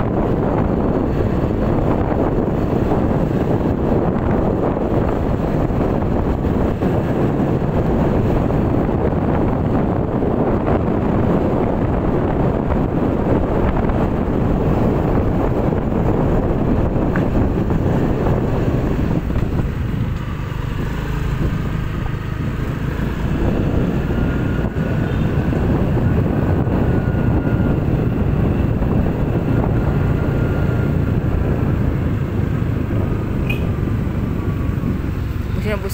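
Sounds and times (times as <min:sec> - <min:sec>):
motorcycle riding: 0:00.0 - 0:35.9
wind buffeting microphone: 0:00.0 - 0:35.9.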